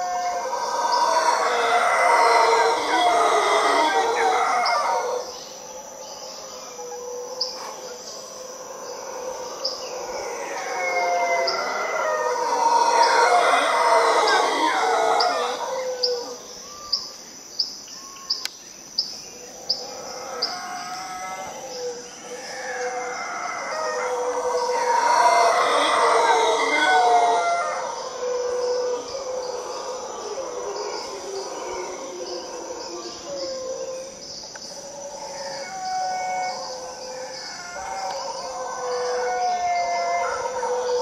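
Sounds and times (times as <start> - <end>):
howler monkeys roaring: 0.0 - 17.1, 19.3 - 41.0.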